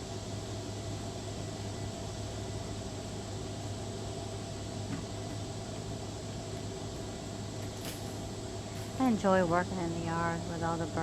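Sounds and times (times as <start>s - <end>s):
cicadas buzzing: 0.2s - 11.0s.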